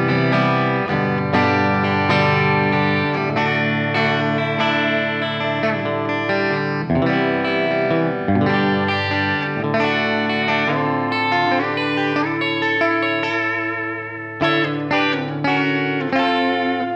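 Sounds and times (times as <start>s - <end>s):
guitar through effects: 0.0s - 16.9s.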